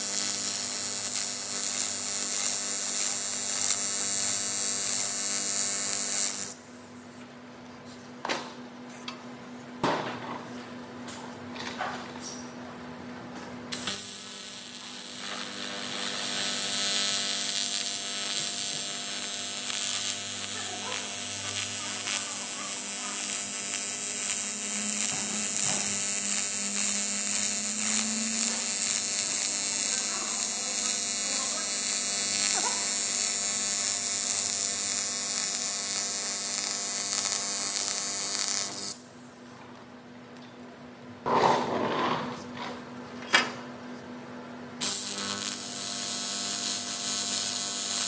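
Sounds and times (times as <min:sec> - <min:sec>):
welding arc buzzing hum: 0:00.0 - 0:39.8, 0:44.7 - 0:48.0.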